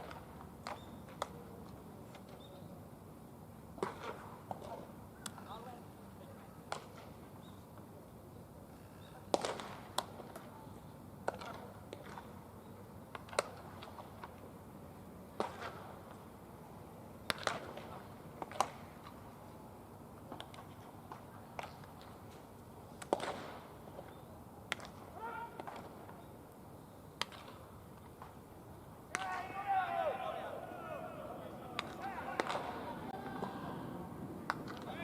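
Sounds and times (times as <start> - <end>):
low ballpark hum: 0.0 - 35.0.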